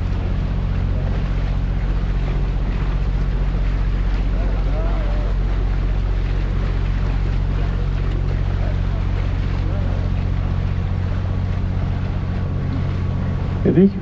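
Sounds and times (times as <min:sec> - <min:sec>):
boat motor humming: 0:00.0 - 0:14.0
water churning: 0:00.0 - 0:14.0.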